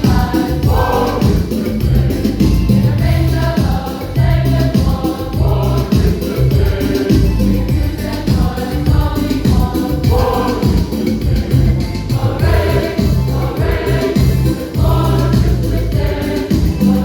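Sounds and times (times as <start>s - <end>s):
choir singing: 0.0s - 17.0s
music with beat and bass: 0.0s - 17.0s.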